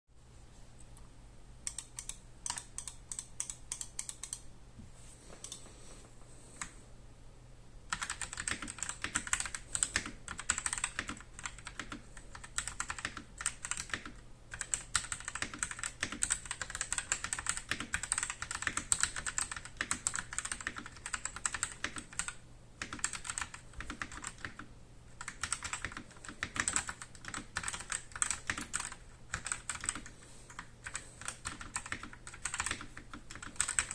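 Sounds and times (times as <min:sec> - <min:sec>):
typing on mechanical keyboard: 0:01.7 - 0:04.4, 0:07.9 - 0:33.9.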